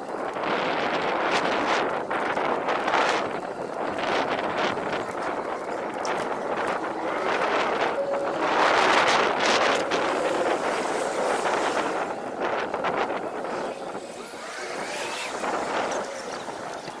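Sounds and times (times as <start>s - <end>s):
bicycle road noise: 0.0s - 17.0s
wind rushing over microphone: 0.0s - 17.0s.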